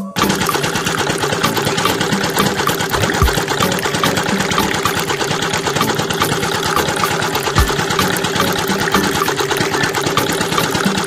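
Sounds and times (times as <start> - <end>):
small motor rattling: 0.2 - 11.0.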